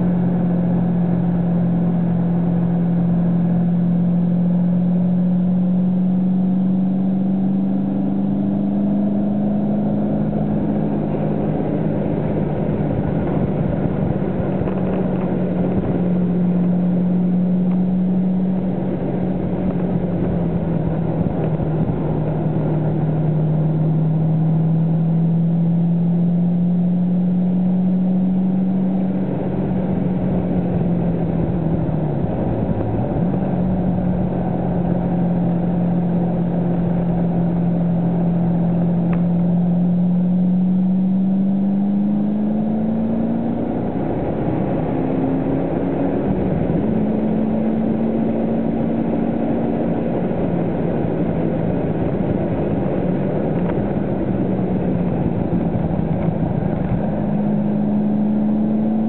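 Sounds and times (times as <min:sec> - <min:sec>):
car engine running hard: 0:00.0 - 0:59.0
road and wind noise: 0:00.0 - 0:59.0.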